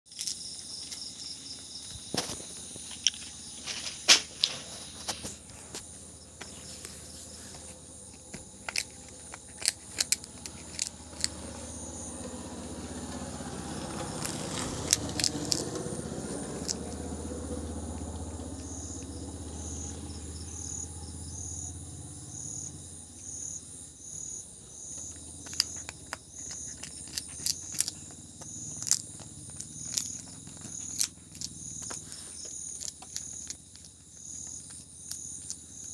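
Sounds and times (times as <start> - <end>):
crickets chirping: 0.1 - 35.9
cat chewing food: 0.9 - 20.3, 24.1 - 35.9.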